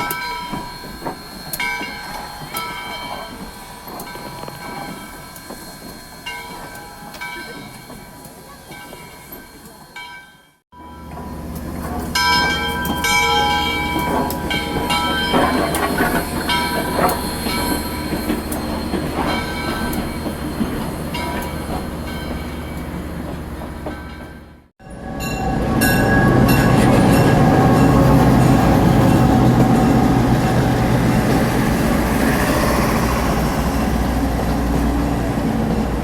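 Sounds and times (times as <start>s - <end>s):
train wheels clattering on track: 0.0s - 36.0s.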